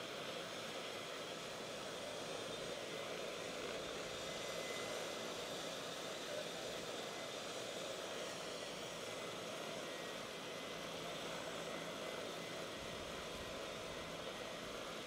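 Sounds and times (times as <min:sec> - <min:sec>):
helicopter turbine engine running: 0:00.0 - 0:15.0.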